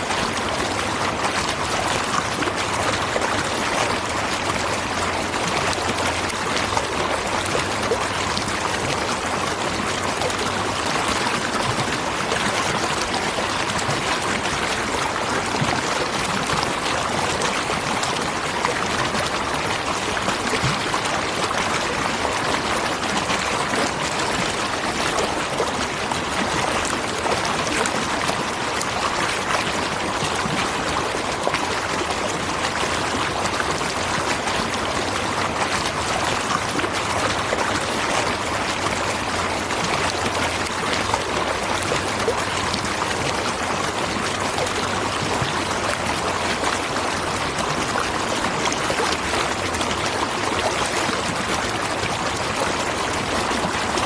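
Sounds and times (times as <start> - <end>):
waterfall rushing and splashing: 0.0 - 54.0.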